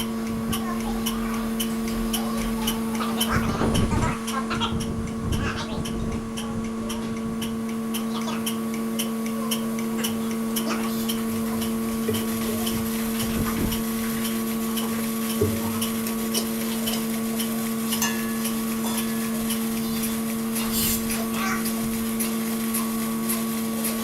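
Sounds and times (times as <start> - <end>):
machine hum: 0.0 - 24.0
regular ticking: 0.0 - 24.0.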